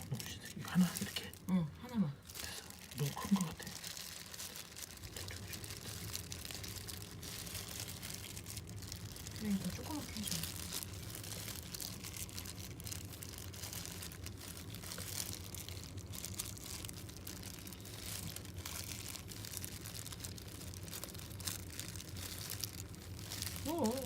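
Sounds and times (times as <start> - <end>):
dried fish treat crunching: 0.0 - 1.5, 2.2 - 24.0.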